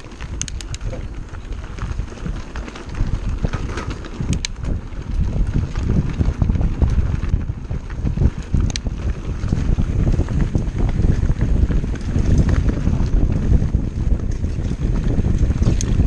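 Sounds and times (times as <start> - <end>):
bike tyres rolling on rocky track: 0.0 - 16.0
sharp clicks and rattles: 0.0 - 16.0
wind buffeting microphone: 0.0 - 16.0.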